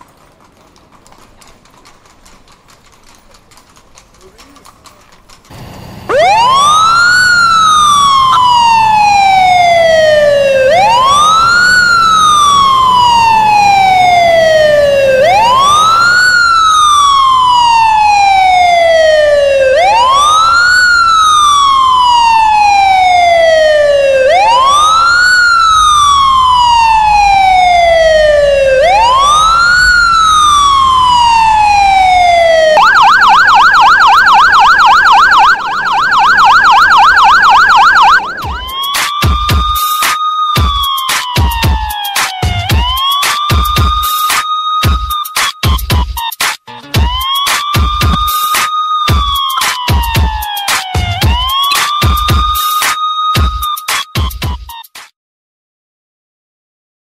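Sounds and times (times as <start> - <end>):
emergency vehicle siren wailing: 5.5 - 54.6
siren fast yelp: 6.1 - 54.8.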